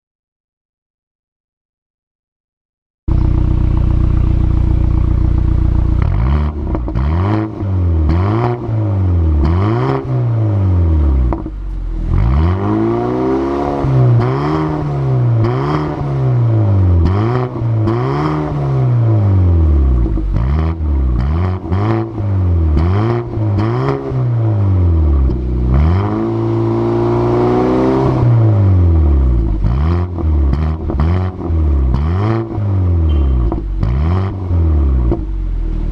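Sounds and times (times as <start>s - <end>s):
car engine idling and revving: 3.1s - 35.9s.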